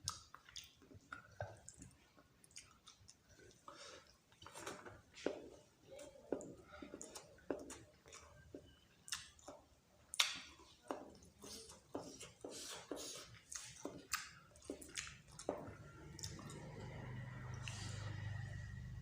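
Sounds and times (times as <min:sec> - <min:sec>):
person chewing wetly: 0:00.0 - 0:18.4.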